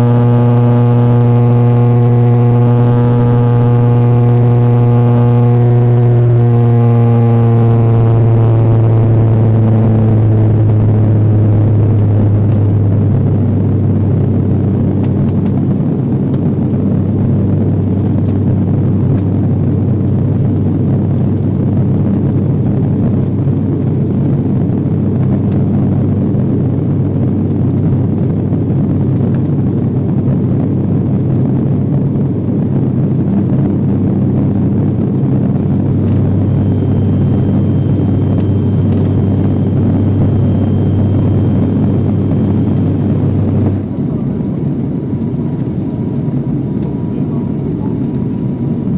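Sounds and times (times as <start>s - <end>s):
turboprop cabin drone: 0.0s - 48.9s.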